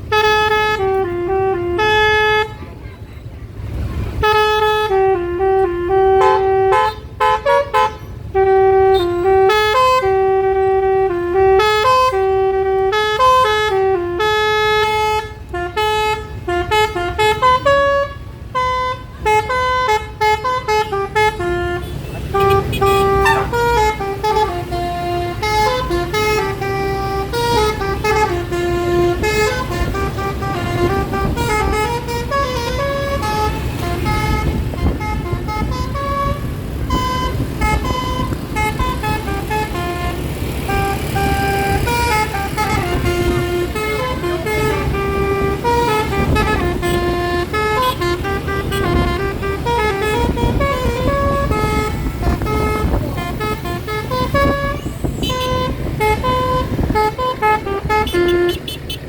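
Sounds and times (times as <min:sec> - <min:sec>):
road noise: 0:00.0 - 0:59.0
musical air horn tune: 0:04.2 - 0:59.0.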